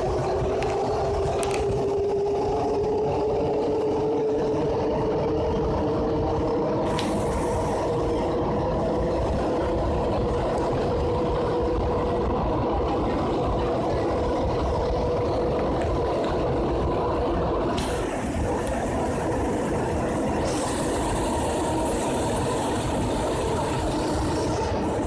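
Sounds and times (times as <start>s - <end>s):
train motor whine rising: 0.0s - 25.0s.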